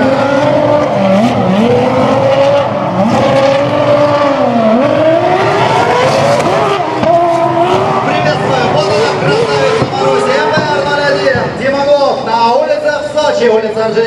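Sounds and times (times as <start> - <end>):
racing car engine revving: 0.0 - 12.3.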